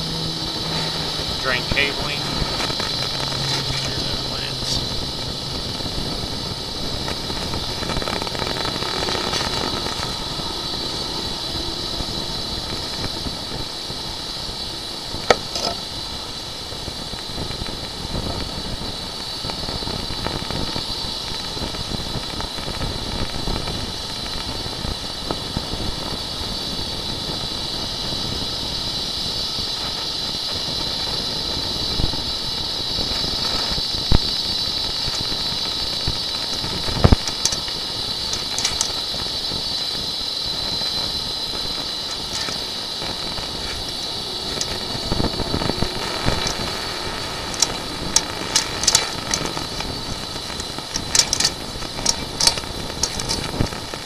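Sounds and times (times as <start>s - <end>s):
high whine: 0.0s - 54.0s
mechanical hiss and hum: 0.0s - 54.0s.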